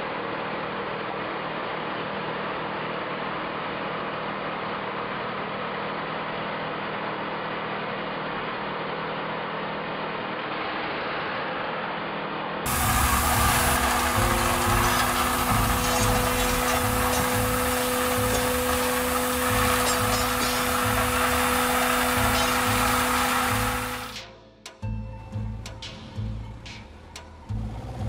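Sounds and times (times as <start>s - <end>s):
machine droning with low hum: 0.0s - 28.0s.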